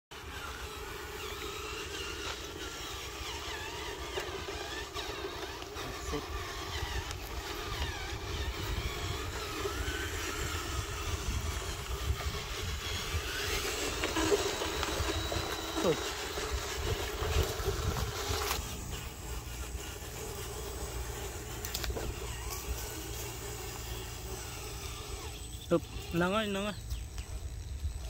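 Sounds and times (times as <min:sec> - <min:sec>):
electric motor and gearbox whining: 0:00.1 - 0:28.0.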